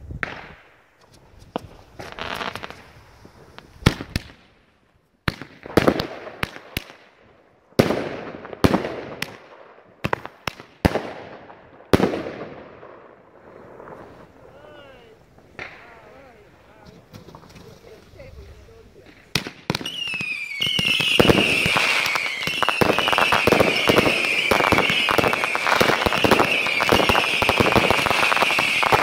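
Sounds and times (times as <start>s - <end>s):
fireworks bangs: 0.0s - 29.0s
fireworks hiss and crackle: 0.0s - 29.0s.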